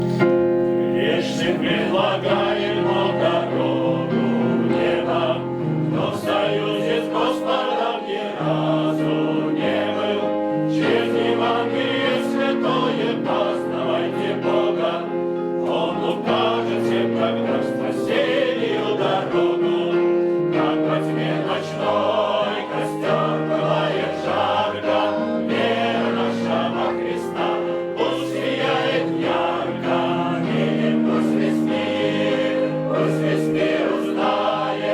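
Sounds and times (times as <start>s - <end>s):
choir singing sustained chords: 0.0s - 34.9s.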